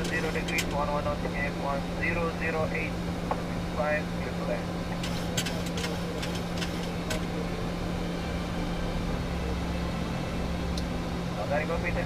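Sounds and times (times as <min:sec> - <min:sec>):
cockpit engine and airflow drone: 0:00.0 - 0:12.0.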